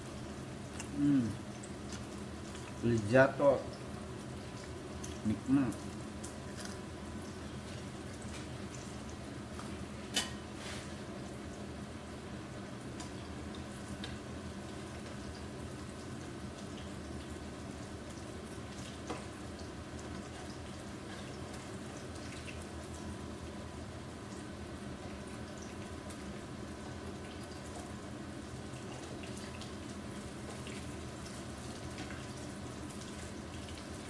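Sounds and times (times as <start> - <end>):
hot oil sizzling and bubbling: 0.0 - 34.0.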